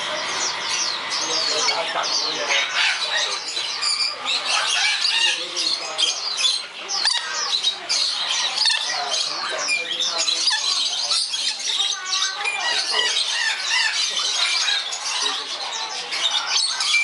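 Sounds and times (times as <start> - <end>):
parrots calling: 0.0 - 17.0.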